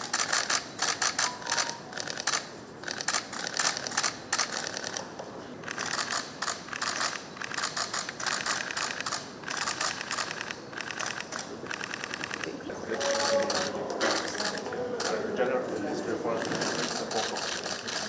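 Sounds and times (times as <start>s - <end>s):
camera shutters clicking: 0.0s - 5.0s, 5.6s - 15.2s, 16.4s - 18.0s.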